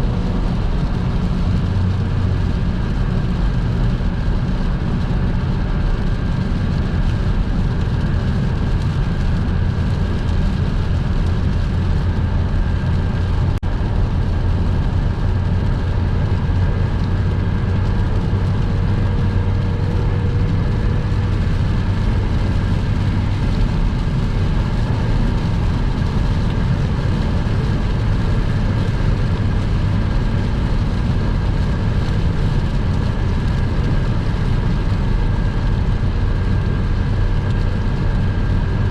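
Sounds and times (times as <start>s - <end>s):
tyres on wet road rumble: 0.0s - 38.9s.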